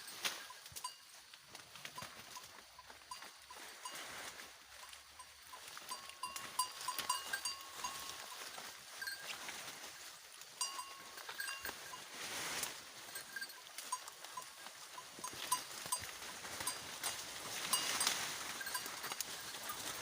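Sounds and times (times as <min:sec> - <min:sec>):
goat bells clinking: 0:00.0 - 0:20.0.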